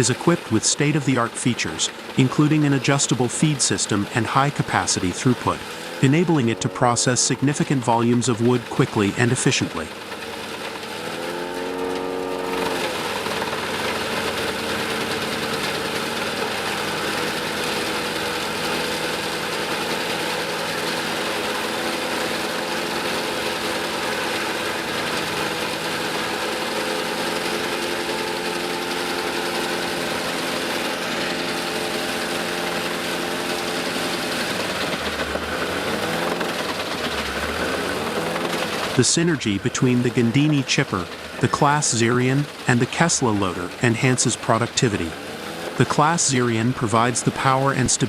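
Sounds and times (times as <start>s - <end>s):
tractor engine: 0.0s - 48.0s
wood chipper running: 0.0s - 48.0s.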